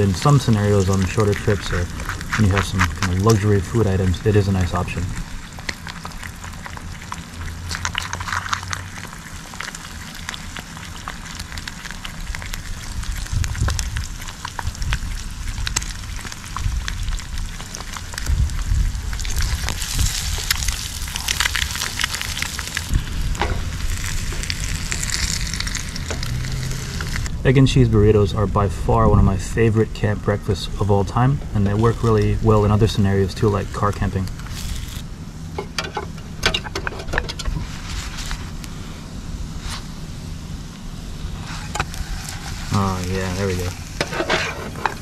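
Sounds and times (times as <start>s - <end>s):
eggs sizzling in frying pan: 0.0s - 27.3s, 29.6s - 36.4s, 39.5s - 45.0s.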